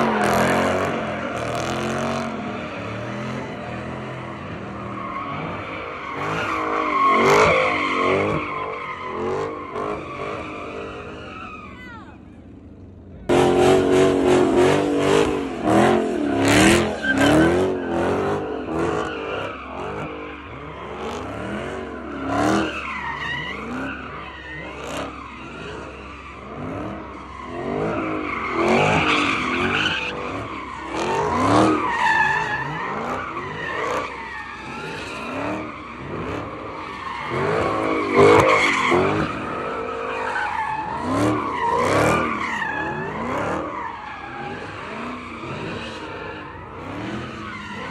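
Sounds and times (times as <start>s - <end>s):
car engine revving: 0.0s - 47.9s
tires squealing: 0.0s - 47.9s.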